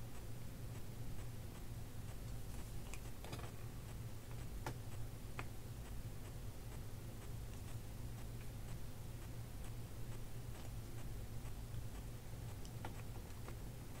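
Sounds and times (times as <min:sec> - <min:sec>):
faint irregular clicks: 0:00.0 - 0:14.0
steady low hum: 0:00.0 - 0:14.0.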